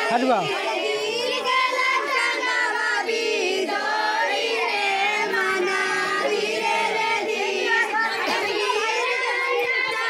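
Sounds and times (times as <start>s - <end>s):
women singing folk song: 0.5s - 10.0s.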